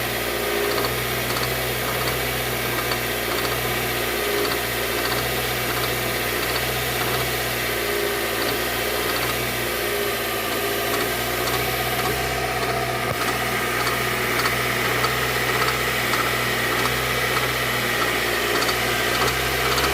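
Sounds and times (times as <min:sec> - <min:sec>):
car engine idling: 0:00.0 - 0:19.9
faint regular engine ticks: 0:00.3 - 0:19.9.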